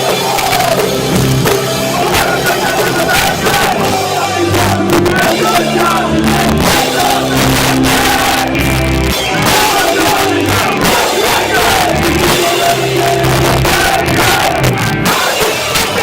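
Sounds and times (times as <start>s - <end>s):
distorted guitars and bass: 0.0s - 16.0s
drums and cymbals: 0.0s - 16.0s
person singing in band: 0.0s - 16.0s.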